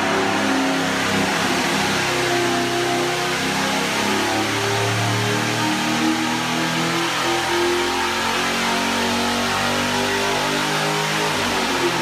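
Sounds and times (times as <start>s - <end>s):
engine running loudly: 0.0s - 12.0s.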